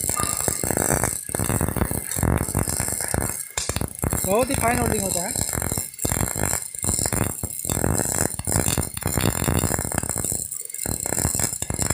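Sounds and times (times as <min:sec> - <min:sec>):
welding arc crackling: 0:00.0 - 0:11.9.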